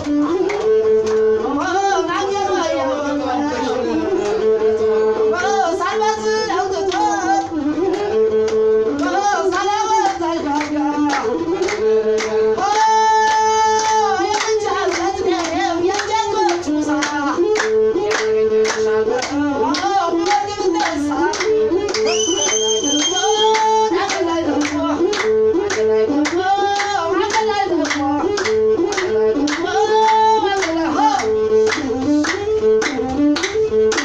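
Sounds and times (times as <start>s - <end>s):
bowed fiddle melody: 0.0s - 34.0s.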